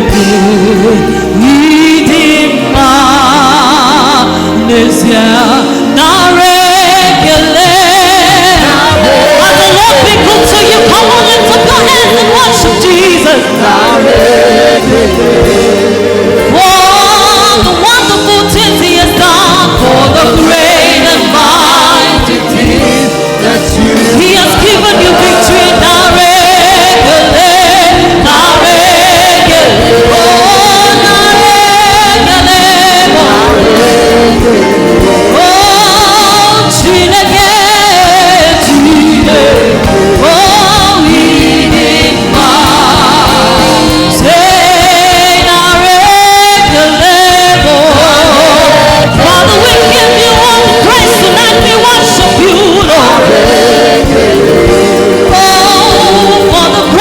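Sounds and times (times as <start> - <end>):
band playing: 0.0 - 57.0
choir singing gospel: 0.0 - 57.0.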